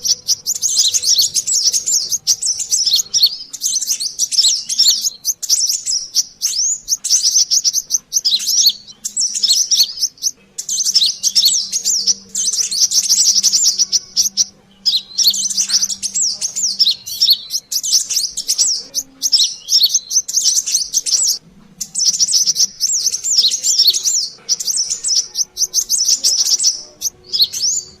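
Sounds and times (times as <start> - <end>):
sunbirds chattering: 0.0 - 28.0.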